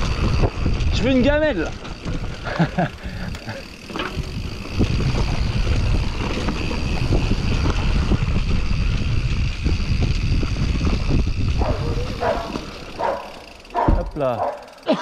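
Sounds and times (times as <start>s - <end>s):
wind buffeting microphone: 0.0s - 14.4s
bike knocking and rattling: 0.0s - 15.0s.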